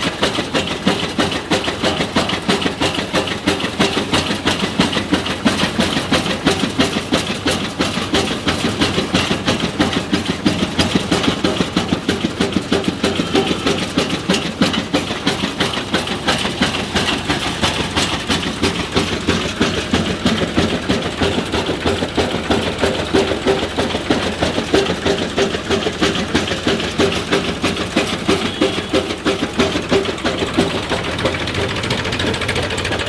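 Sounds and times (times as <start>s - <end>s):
tractor diesel engine pulsing: 0.0s - 33.0s.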